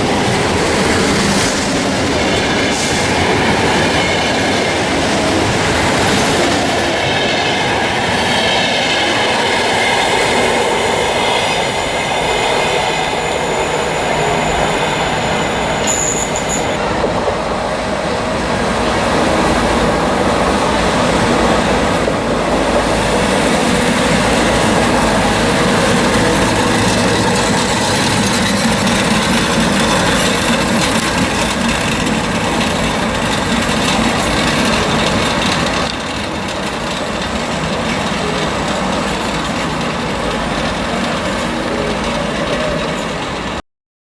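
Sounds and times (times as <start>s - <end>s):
electric train rumbling on rails: 0.0s - 43.6s.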